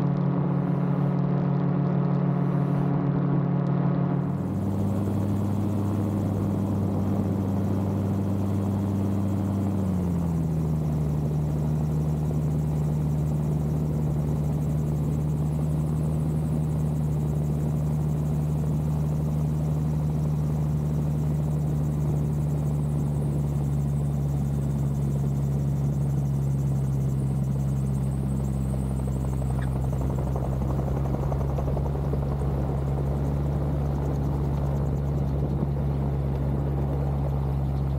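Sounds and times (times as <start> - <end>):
aircraft engine and propeller: 0.0 - 37.9.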